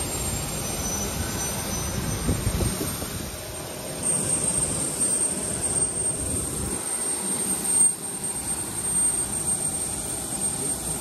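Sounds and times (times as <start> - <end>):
aircraft turbine rumble and whine: 0.0 - 11.0.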